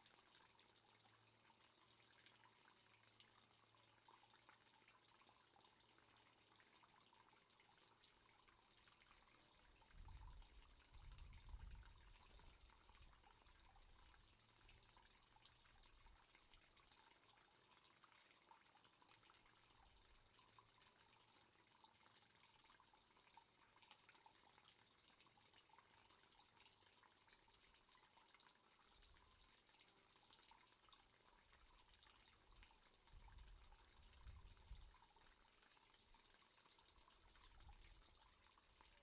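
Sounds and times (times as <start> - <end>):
water trickling and dripping: 0.0 - 39.0.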